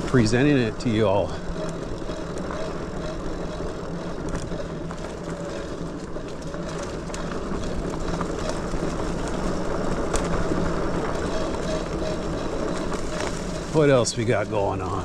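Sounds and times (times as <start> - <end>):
electric motor humming: 0.0 - 15.0
tyres rumbling on trail: 0.0 - 15.0.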